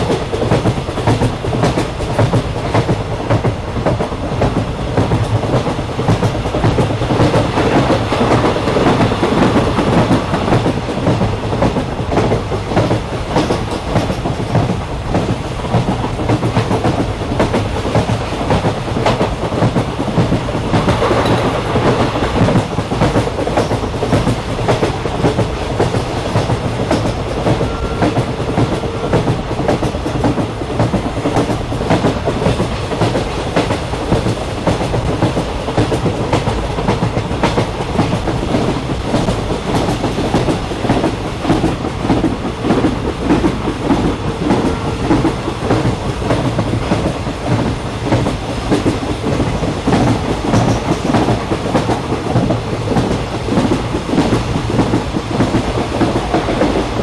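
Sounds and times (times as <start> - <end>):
train rumbling and clattering: 0.0 - 57.0.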